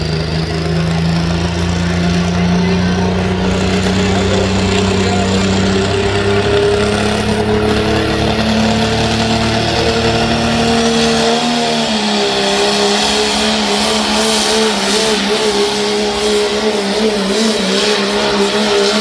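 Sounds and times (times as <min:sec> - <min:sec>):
diesel truck engine at full power: 0:00.0 - 0:19.0.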